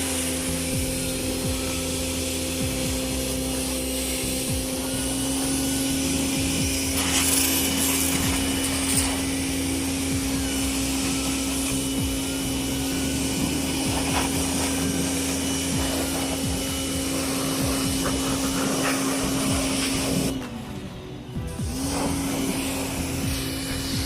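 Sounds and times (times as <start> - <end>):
water jet hissing: 0.0 - 20.4, 21.4 - 24.0
pressure washer humming: 0.0 - 24.0.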